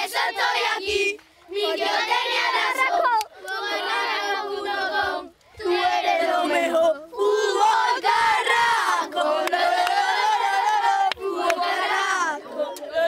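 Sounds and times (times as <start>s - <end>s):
boys yelling and cheering: 0.2s - 13.0s.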